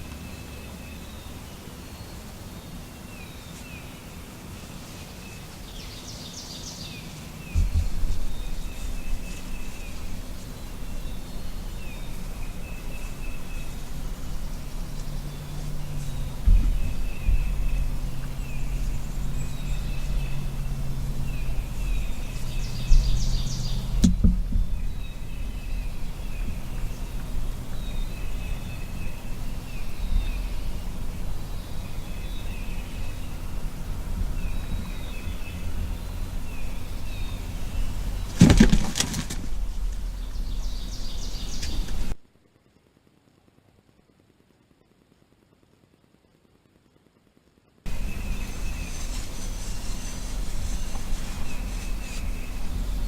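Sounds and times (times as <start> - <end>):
distant road traffic: 0.0 - 42.2, 47.9 - 53.0
songbirds chirping and trilling: 0.0 - 42.2, 47.9 - 53.0.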